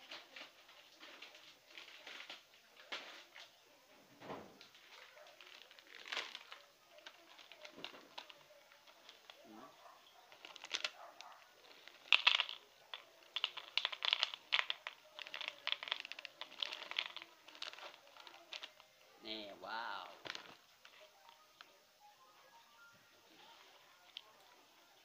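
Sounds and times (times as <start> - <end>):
plastic wrapper crinkling: 0.0 - 3.5, 4.6 - 19.0, 19.8 - 21.8, 23.2 - 25.0.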